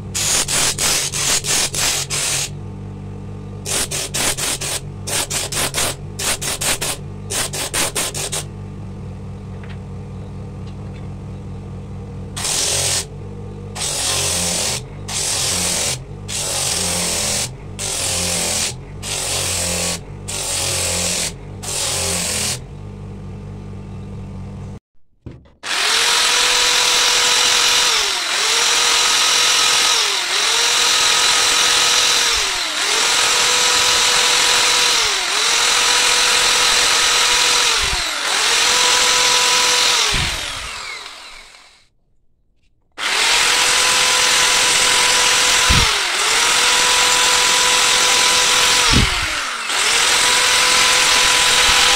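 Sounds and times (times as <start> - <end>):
rotary tool whining: 0.0 - 2.8, 3.4 - 8.5, 12.4 - 24.5, 25.6 - 41.9, 42.9 - 51.9
sanding disc humming: 0.0 - 8.7, 12.1 - 24.6, 25.7 - 41.8, 43.0 - 51.9.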